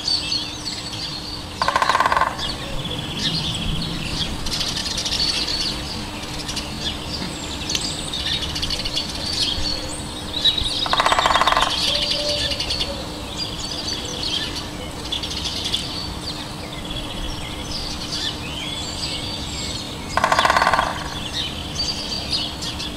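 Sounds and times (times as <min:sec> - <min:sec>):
harsh buzzy bird calls: 0:00.0 - 0:22.9
songbirds chirping and trilling: 0:00.0 - 0:22.9.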